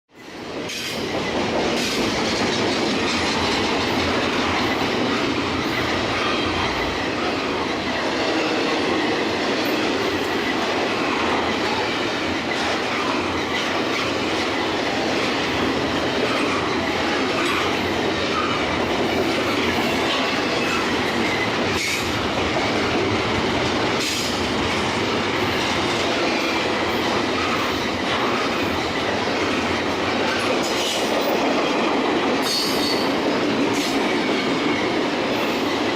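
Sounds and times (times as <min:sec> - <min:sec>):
high squeal of wheels on rail: 0:00.2 - 0:23.2, 0:24.0 - 0:24.5, 0:25.4 - 0:35.9
freight train wagons rumbling: 0:00.2 - 0:35.9.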